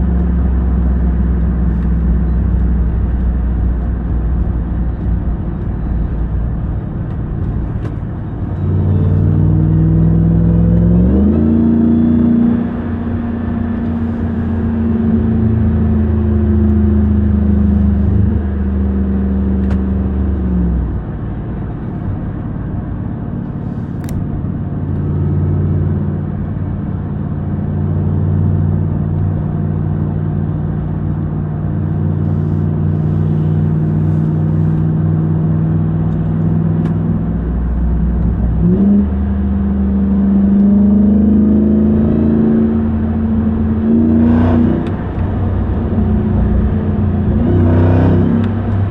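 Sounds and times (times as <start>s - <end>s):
pickup truck engine: 0.0s - 48.9s.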